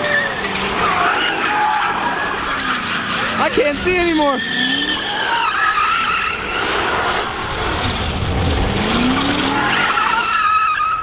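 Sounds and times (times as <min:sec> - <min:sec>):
car engine revving: 0:00.0 - 0:11.0
tires screeching: 0:00.0 - 0:11.0.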